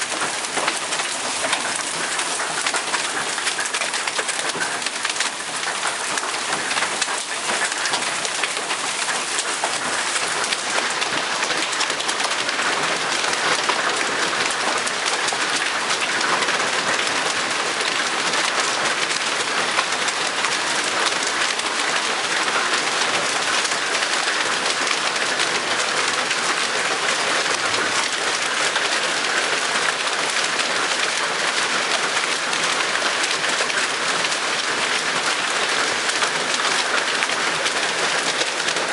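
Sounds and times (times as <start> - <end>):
hail and rain on wooden deck: 0.0 - 38.9.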